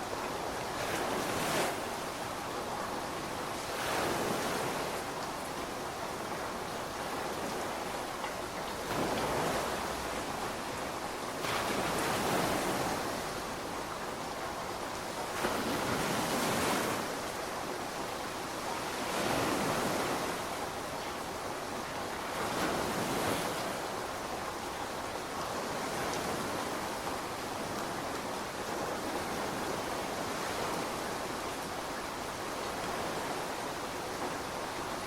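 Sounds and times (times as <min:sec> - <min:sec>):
heavy rainfall: 0:00.0 - 0:35.0.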